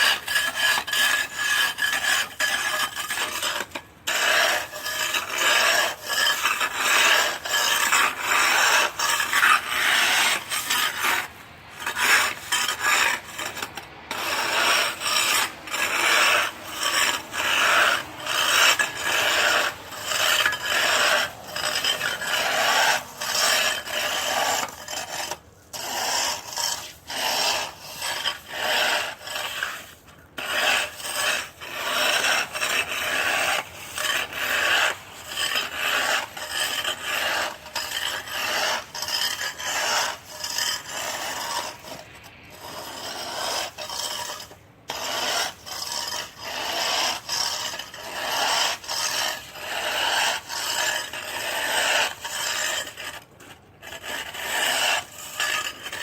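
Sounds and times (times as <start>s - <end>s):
ice being scraped: 0.0s - 56.0s.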